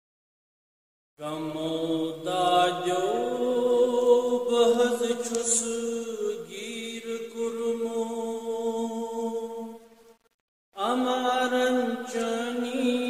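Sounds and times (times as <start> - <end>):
man singing devotional song: 1.2 - 9.8, 10.8 - 13.0.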